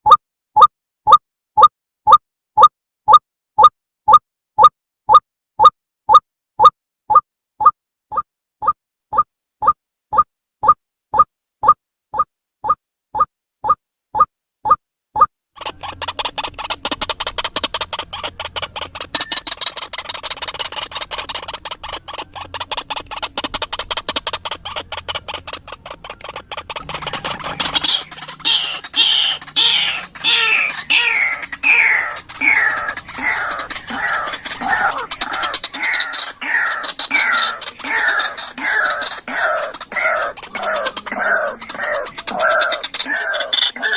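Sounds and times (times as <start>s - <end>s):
waterhen rapid clicking notes: 0.1s - 43.9s
waterhen repeated falling notes: 0.1s - 43.9s.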